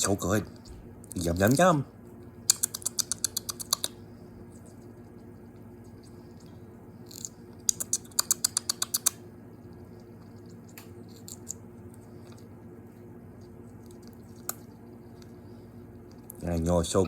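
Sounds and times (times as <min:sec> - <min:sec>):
parrot beak crunching broccoli: 0:00.3 - 0:16.7.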